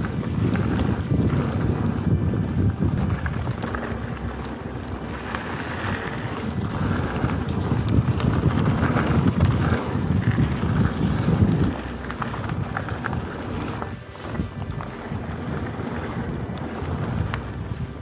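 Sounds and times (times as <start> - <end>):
bike rattling over bumps: 0.0 - 18.0
bike tyres rolling on dirt: 0.0 - 18.0
wind buffeting microphone: 0.0 - 18.0.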